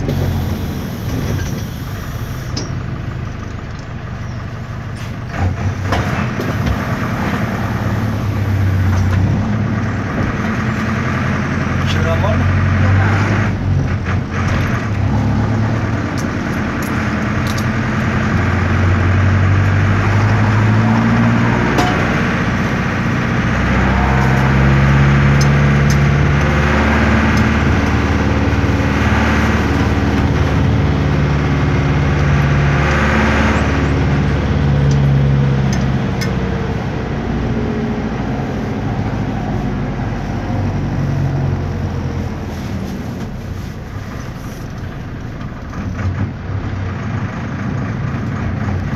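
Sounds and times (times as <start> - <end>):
diesel engine driving: 0.0 - 48.9.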